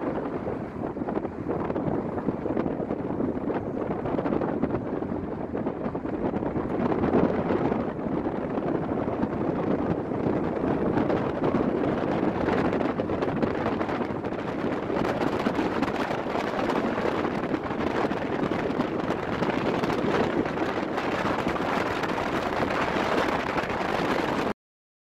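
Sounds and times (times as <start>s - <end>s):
vehicle road and engine noise: 0.0s - 24.5s
wind on microphone: 0.0s - 24.6s.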